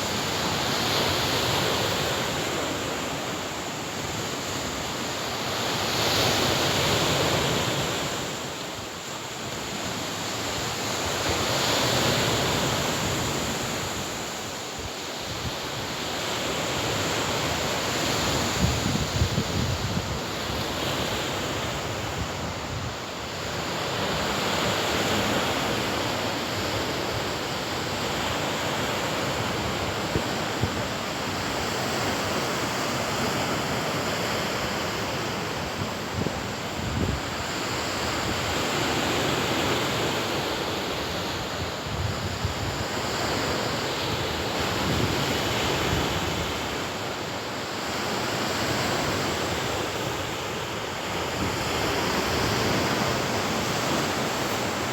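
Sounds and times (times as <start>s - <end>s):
waves breaking on a beach: 0.0s - 54.9s.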